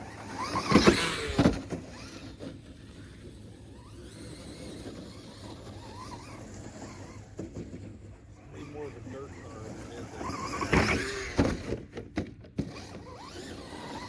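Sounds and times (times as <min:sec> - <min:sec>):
electric motor revving: 0:00.0 - 0:07.8, 0:08.4 - 0:11.7, 0:12.6 - 0:14.0.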